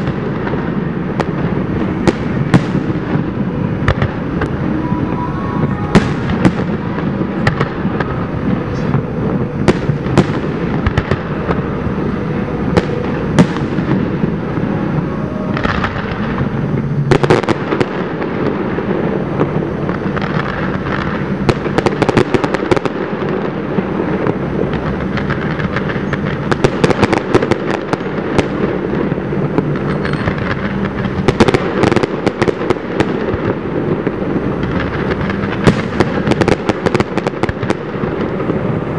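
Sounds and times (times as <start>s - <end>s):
low rumble: 0.0s - 36.9s
fireworks bursting and crackling: 0.0s - 38.9s.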